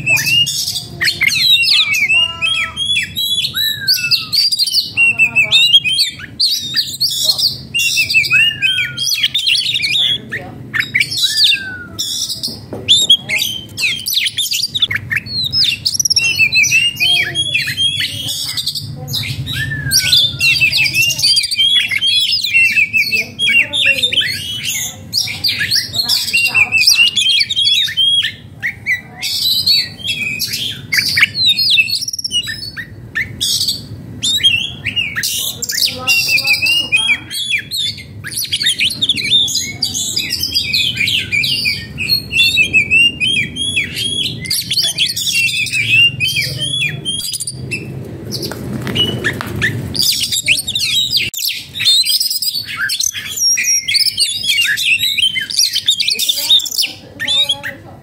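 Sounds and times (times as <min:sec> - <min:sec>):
bird singing chirps and whistles: 0:00.0 - 0:57.7.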